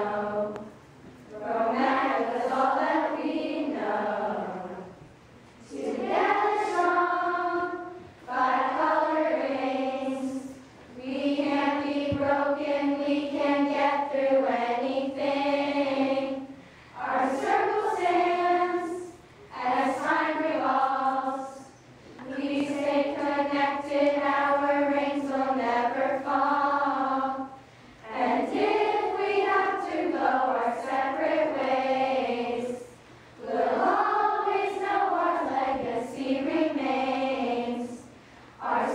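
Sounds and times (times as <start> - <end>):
girls singing unaccompanied: 0.0 - 38.9.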